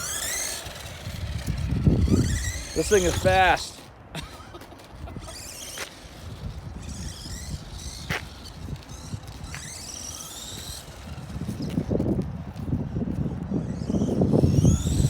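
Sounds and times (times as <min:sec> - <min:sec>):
toy car electric motor whining: 0:00.0 - 0:15.0.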